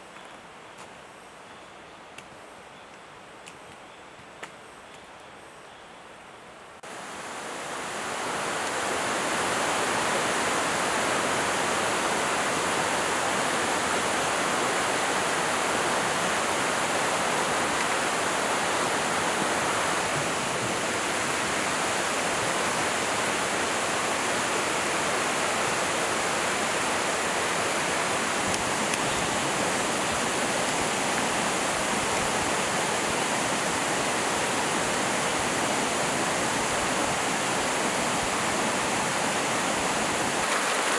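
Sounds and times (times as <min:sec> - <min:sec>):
stream rushing over rocks: 0:06.8 - 0:40.9.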